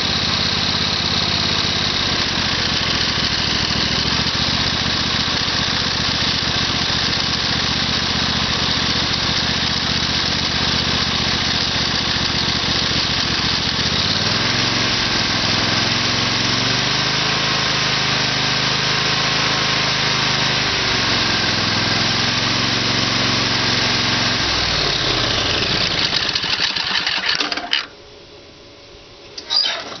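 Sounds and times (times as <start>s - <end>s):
engine running and revving: 0.0s - 27.1s.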